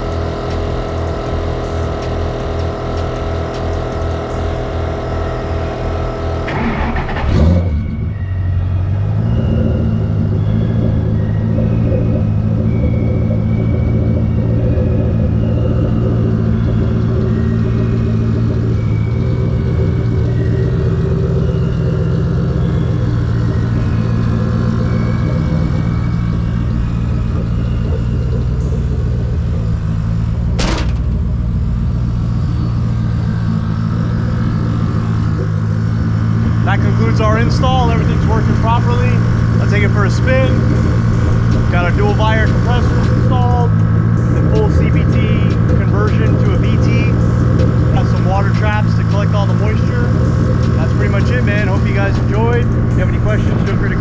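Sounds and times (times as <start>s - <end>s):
air compressors buzzing hum: 0.0s - 54.0s.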